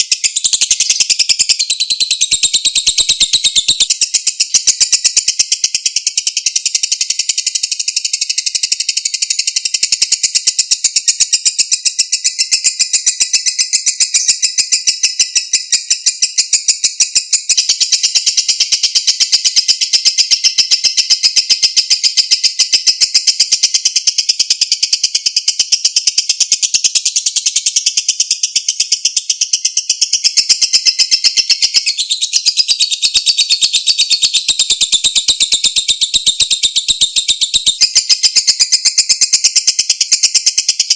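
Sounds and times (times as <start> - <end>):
lovebird trilling: 0.0 - 7.0, 12.1 - 18.2, 21.2 - 40.9.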